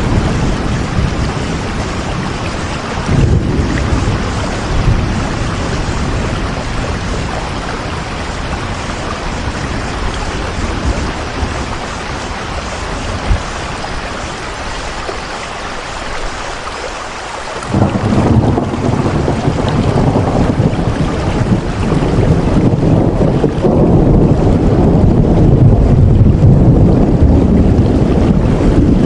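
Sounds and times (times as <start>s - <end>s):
deep rumble: 0.0s - 14.6s, 17.6s - 29.0s
heavy rain hiss: 0.0s - 29.0s.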